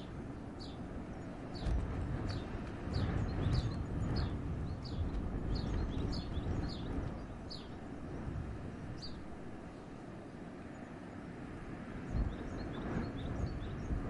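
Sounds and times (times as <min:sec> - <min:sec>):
wind in a forest: 0:00.0 - 0:14.0.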